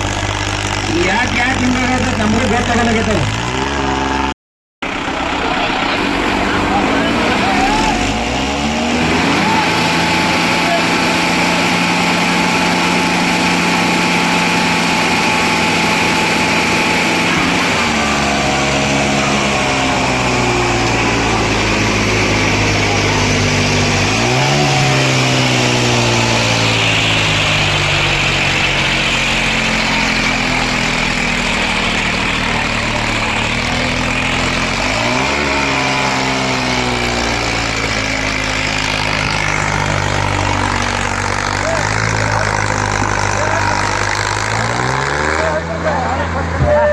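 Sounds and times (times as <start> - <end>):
diesel tractor engines straining: 0.0 - 46.9.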